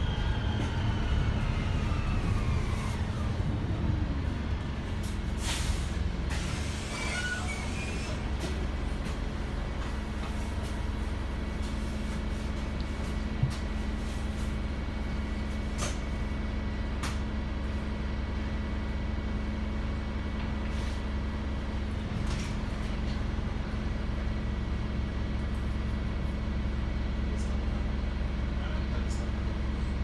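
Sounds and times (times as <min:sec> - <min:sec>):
bus diesel engine idling: 0:00.0 - 0:30.0.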